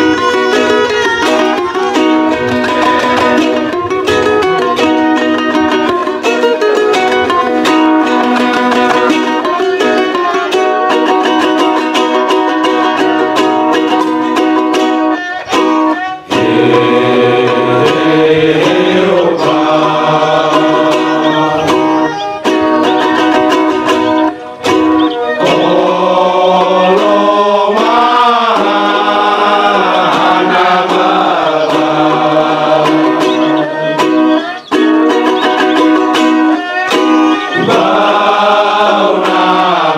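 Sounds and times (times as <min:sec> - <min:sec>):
men's choir singing: 0:00.0 - 0:13.4, 0:14.0 - 0:39.9
violin and ukuleles playing: 0:00.0 - 0:39.9.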